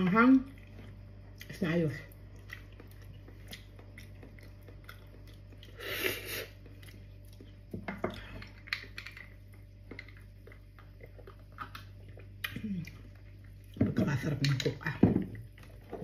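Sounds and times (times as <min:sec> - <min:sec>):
person chewing: 0:00.5 - 0:13.8.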